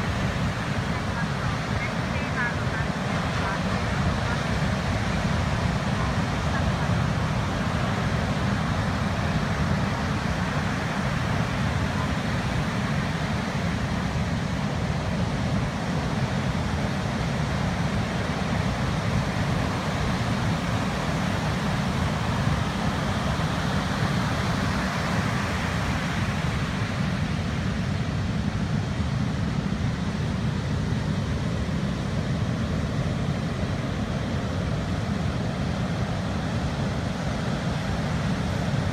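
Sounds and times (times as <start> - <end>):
heavy surf: 0.0 - 38.9.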